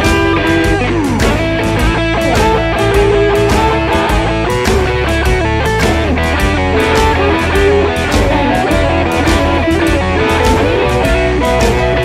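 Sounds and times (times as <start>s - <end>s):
blues band playing: 0.0s - 12.0s
electric guitar lines: 0.0s - 12.0s.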